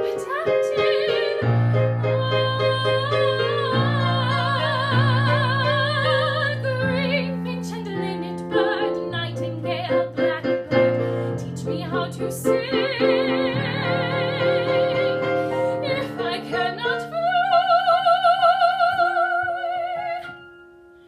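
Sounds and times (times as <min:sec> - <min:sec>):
soprano singing with vibrato: 0:00.0 - 0:20.5
piano accompaniment: 0:00.0 - 0:21.0.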